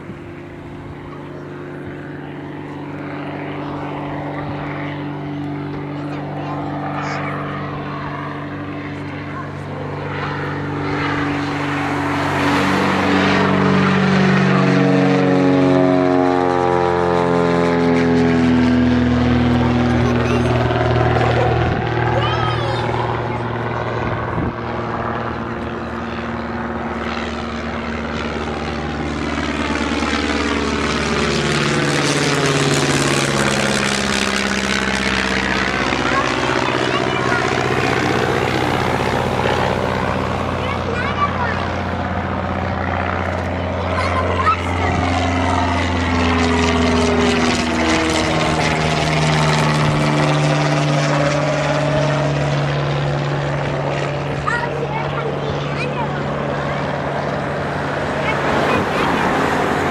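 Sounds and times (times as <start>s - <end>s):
light aircraft engine passing: 0.0s - 59.9s.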